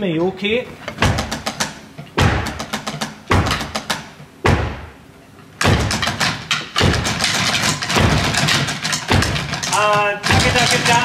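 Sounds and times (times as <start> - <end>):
drumsticks striking snare drums: 1.0 - 4.9, 5.6 - 11.0.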